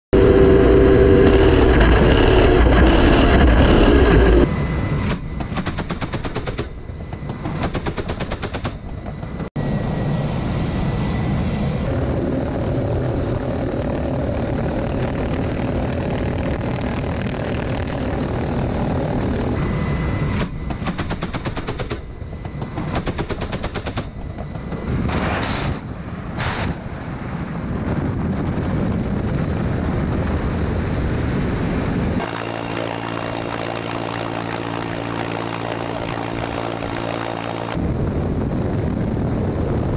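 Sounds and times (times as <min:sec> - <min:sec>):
helicopter turbine and rotor noise: 0:00.2 - 0:27.2, 0:28.4 - 0:39.9.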